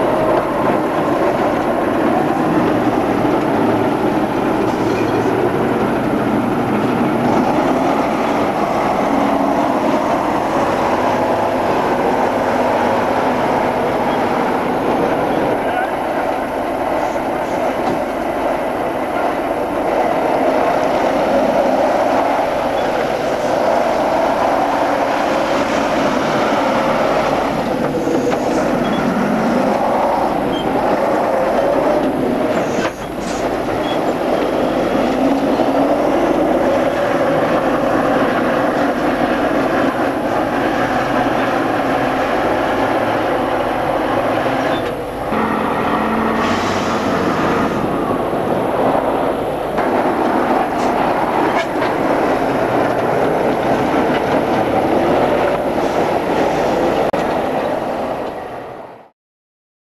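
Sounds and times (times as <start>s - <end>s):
diesel truck engines rumbling: 0.0s - 57.9s.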